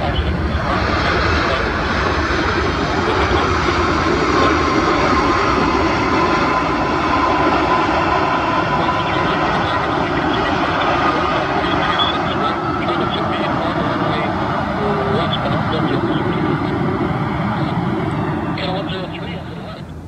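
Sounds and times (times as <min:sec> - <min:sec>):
jet engines in reverse thrust: 0:00.0 - 0:20.0
whining tone: 0:00.0 - 0:20.0.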